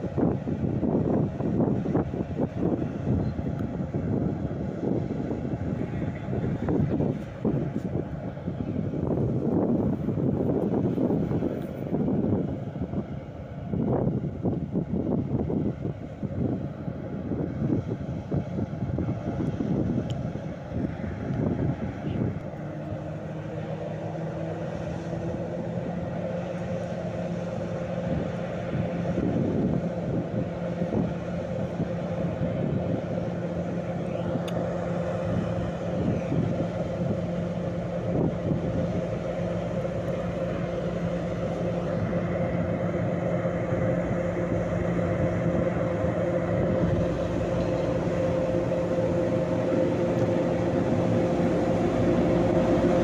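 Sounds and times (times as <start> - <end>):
diesel locomotive engine drone: 0.0 - 53.0.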